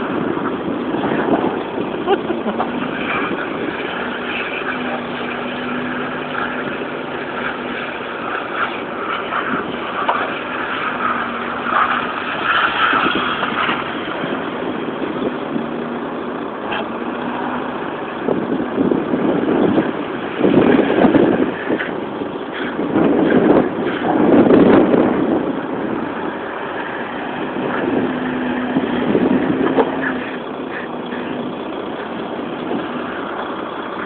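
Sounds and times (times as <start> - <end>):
van engine running hard: 0.0 - 34.0.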